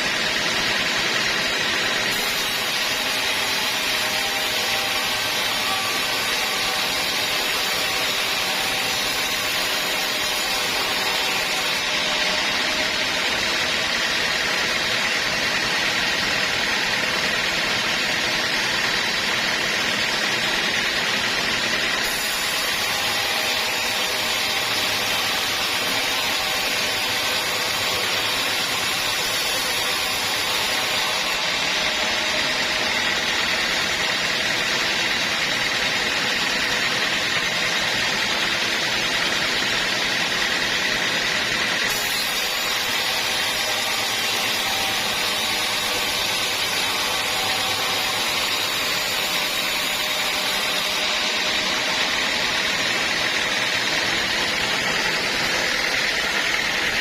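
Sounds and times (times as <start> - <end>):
band saw running: 0.0 - 57.0.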